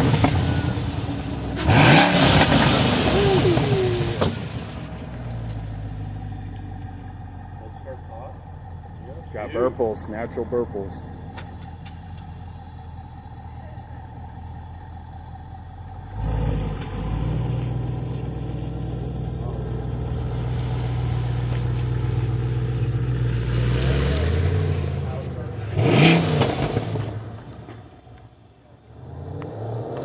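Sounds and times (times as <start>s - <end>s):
car engine idling: 0.0s - 26.0s
car pulling away: 0.0s - 30.0s.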